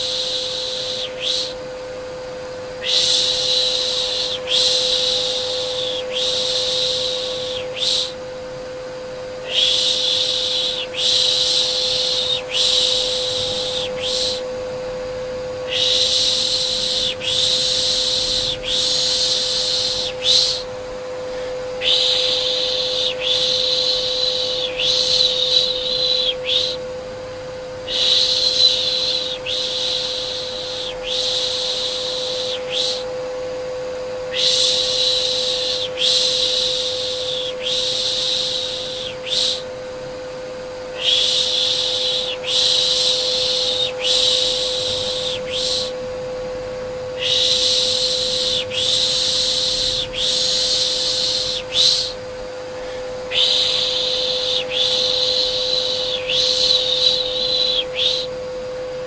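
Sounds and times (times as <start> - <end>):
vacuum cleaner whine: 0.0 - 59.0
person shushing: 2.8 - 8.2, 9.4 - 14.5, 15.6 - 26.8, 27.8 - 33.1, 34.3 - 39.6, 40.9 - 46.0, 47.2 - 58.3.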